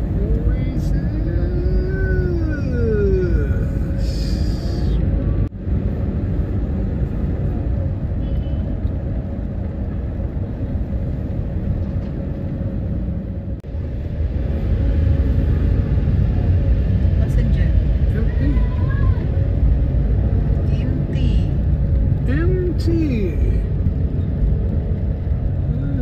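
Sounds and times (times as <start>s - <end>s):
city traffic rumble: 0.0s - 26.0s.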